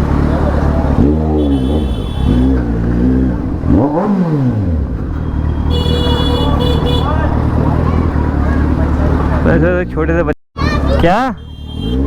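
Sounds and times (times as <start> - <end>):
motorcycle engine revving: 0.0 - 10.0, 10.8 - 12.0.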